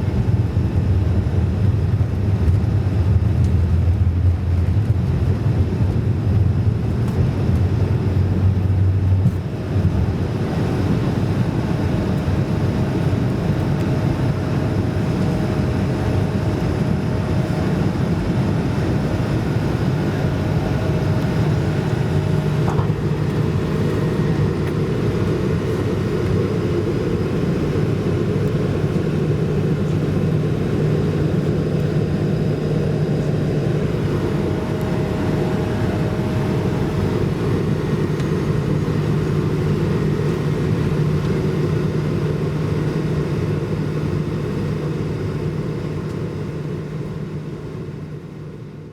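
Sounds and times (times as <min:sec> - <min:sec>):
deep low drone: 0:00.0 - 0:48.7
aircraft cabin engine rumble: 0:00.0 - 0:48.9.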